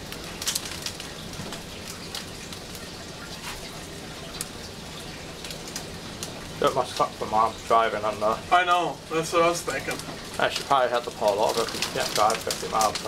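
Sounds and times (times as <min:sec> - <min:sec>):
rain falling steadily: 0:00.0 - 0:13.0
raindrops ticking on a surface: 0:00.0 - 0:13.0.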